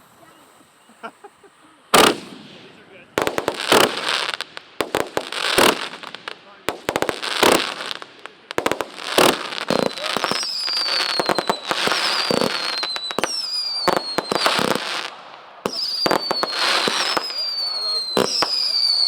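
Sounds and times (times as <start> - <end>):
falling firework whistles: 1.9 - 6.3, 6.9 - 19.0
firework bangs and crackling: 1.9 - 19.0.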